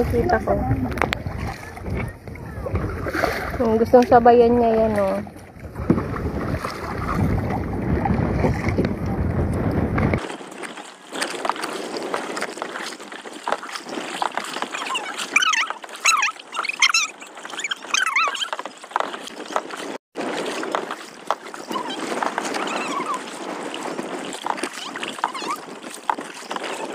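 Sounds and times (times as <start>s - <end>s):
kayak paddle splashing: 0.0s - 26.9s
wind rumbling on microphone: 0.0s - 26.9s.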